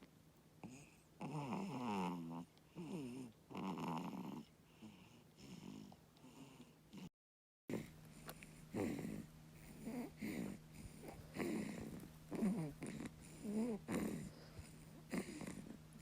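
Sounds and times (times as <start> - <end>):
baby snoring: 0.6 - 7.1, 7.7 - 15.8.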